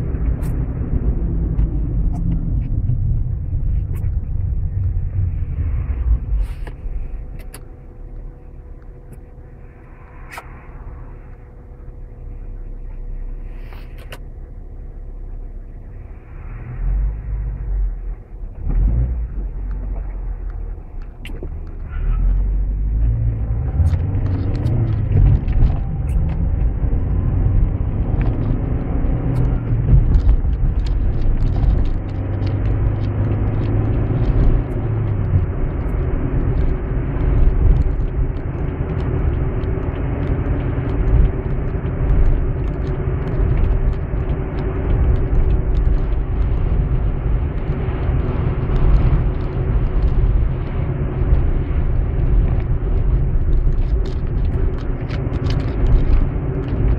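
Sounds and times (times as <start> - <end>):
car engine and tyre rumble: 0.0 - 56.9.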